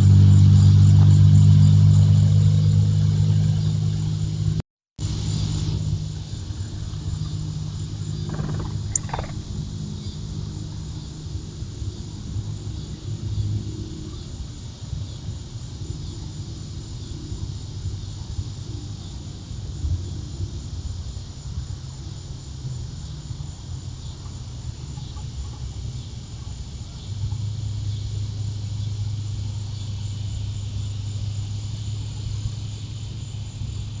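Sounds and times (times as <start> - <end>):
insects chirring: 0.0 - 34.0
low steady hum: 0.0 - 34.0.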